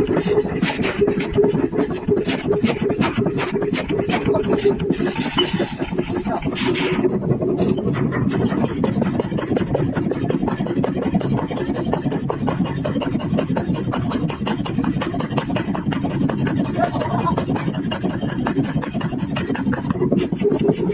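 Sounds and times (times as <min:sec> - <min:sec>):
machinery rattling and grinding: 0:00.0 - 0:20.9.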